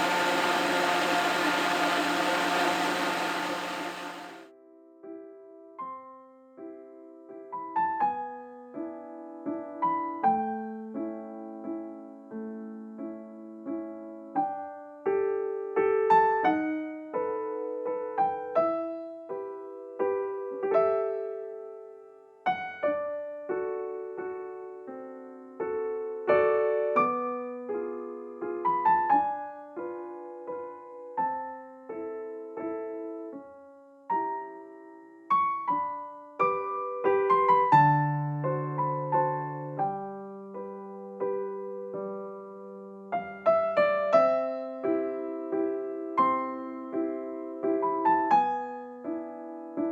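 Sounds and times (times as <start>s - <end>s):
slow solo piano music: 0.0s - 0.9s, 5.8s - 49.9s.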